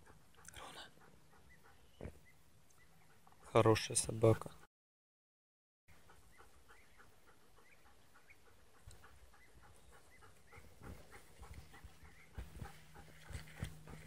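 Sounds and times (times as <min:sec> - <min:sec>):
dog panting quickly: 0:00.0 - 0:03.6, 0:05.9 - 0:14.0.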